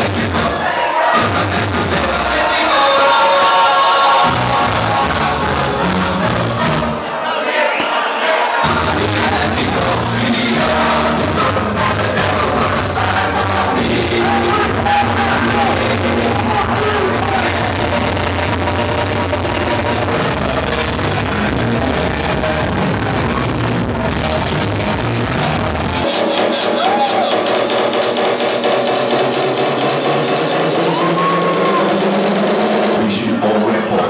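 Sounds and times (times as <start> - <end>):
club dance music: 0.0 - 7.2, 8.6 - 34.0.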